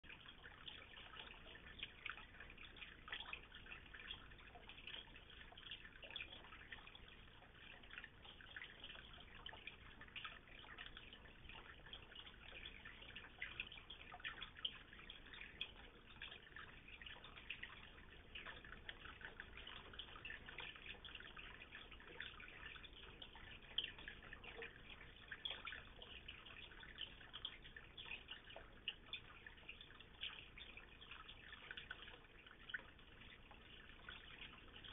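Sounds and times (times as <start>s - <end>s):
water dripping into pond: 0.0s - 34.9s.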